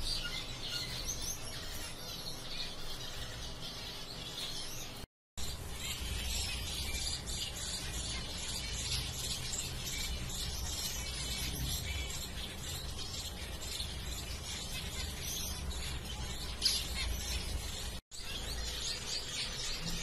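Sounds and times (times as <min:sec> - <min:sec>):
finches chirping: 0:00.0 - 0:20.0.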